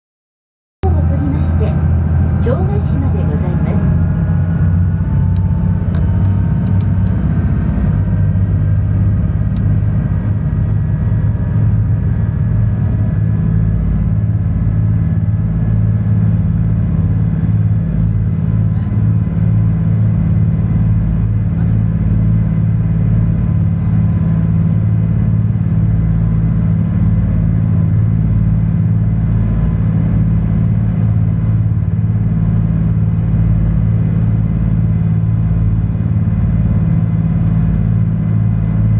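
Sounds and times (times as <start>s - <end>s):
boat engine droning: 0.8s - 38.9s
boat rushing through water: 0.8s - 38.9s.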